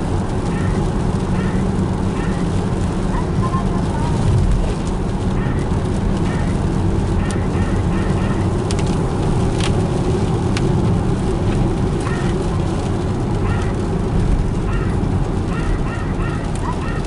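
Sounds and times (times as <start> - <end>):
loud low rumble: 0.0 - 16.4.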